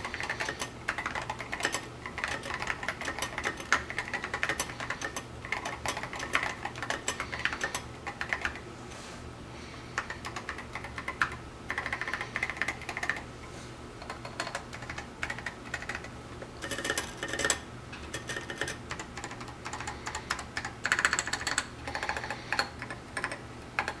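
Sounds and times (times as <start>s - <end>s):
mechanical keyboard typing: 0.0s - 8.6s, 10.0s - 13.3s, 14.0s - 24.0s.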